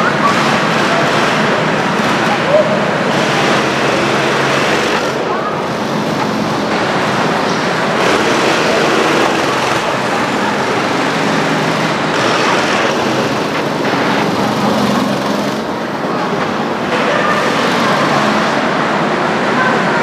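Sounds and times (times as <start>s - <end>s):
go-kart engines running: 0.0s - 20.0s.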